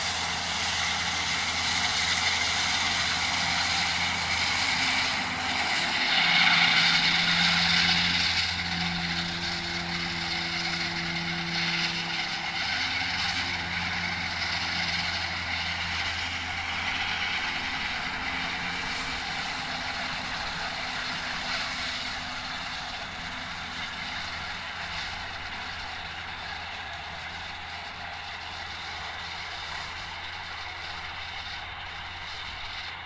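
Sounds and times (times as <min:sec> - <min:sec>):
mower whirring cutting grass: 0:00.0 - 0:33.0
tractor engine under load: 0:00.0 - 0:33.0.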